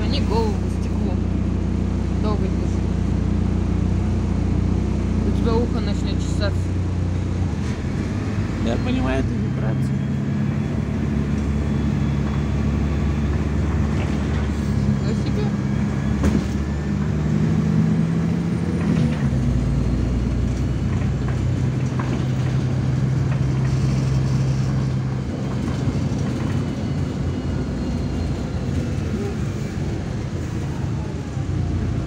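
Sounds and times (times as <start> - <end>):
bus engine drone: 0.0 - 32.0
road noise: 0.0 - 32.0.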